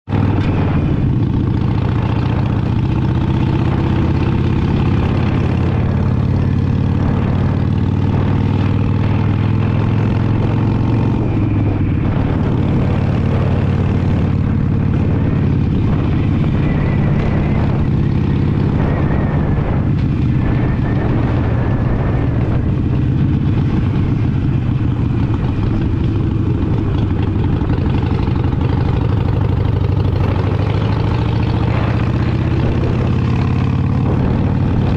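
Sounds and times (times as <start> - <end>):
motorcycle engine running: 0.0 - 34.9
wind noise: 0.0 - 34.9.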